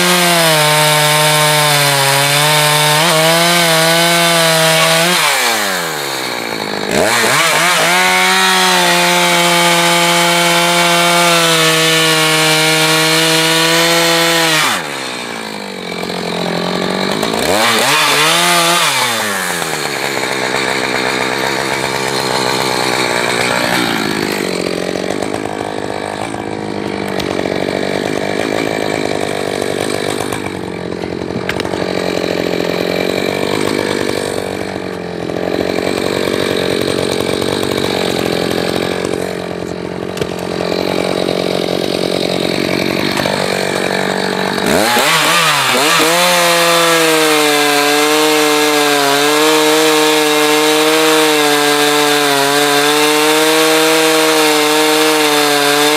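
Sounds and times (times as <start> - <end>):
chain cutting firewood: 0.0 - 55.9
chainsaw revving: 0.0 - 55.9.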